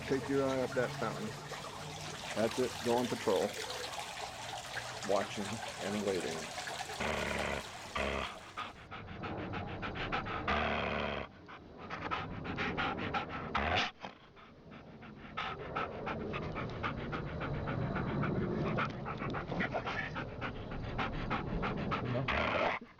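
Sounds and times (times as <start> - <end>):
rapid panting breaths: 0.0 - 22.9.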